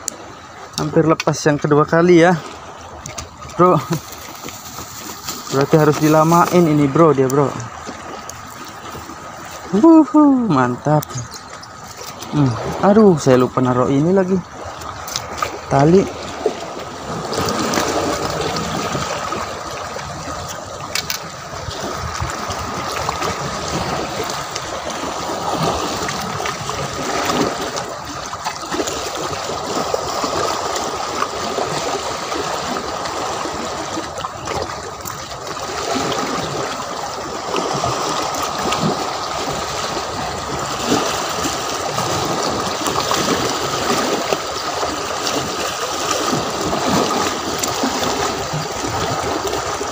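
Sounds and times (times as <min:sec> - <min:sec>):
sea water lapping against rocks: 0:00.0 - 0:49.9.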